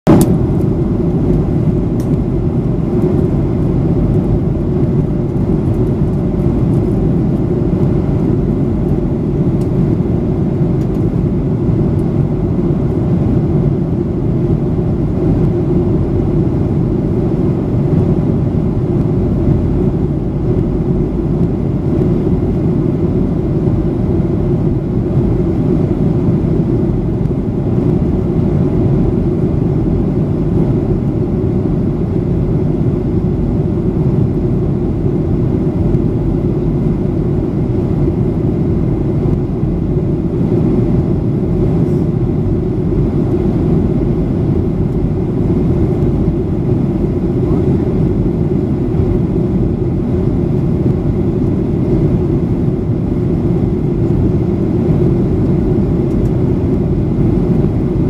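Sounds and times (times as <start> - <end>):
airplane cabin rumble: 0.0 - 58.0.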